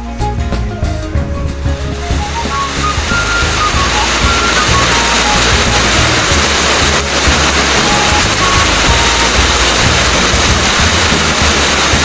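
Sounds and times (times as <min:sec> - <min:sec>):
music with shifting bass line: 0:00.0 - 0:12.0
heavy rain falling: 0:00.1 - 0:12.0.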